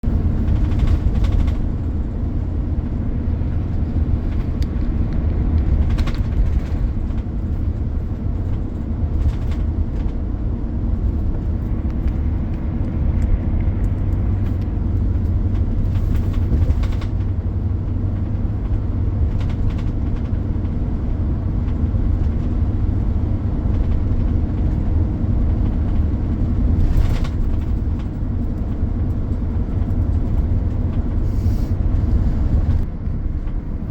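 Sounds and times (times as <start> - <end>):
heavy engines rumbling: 0.0 - 33.9.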